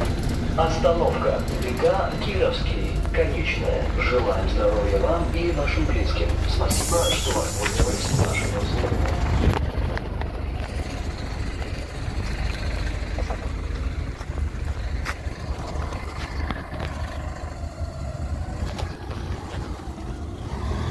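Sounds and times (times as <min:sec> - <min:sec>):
bus engine idling: 0:00.0 - 0:20.9.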